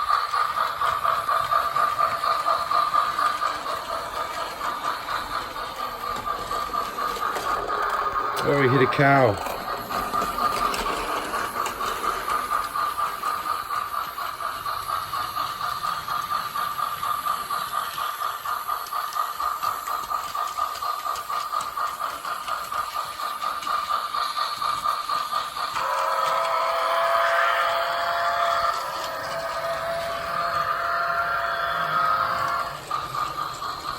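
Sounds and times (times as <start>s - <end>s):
electronic steam train chuffing: 0.0s - 33.9s.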